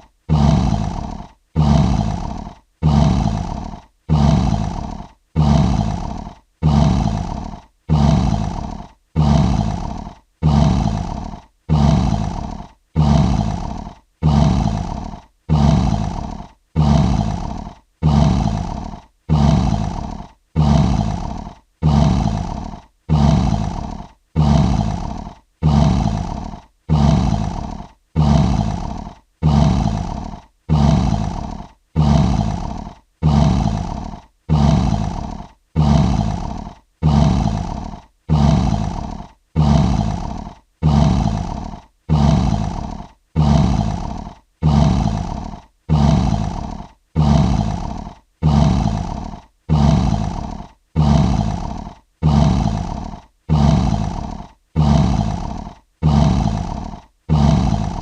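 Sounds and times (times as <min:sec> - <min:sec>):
lion roaring: 0:00.3 - 0:58.0.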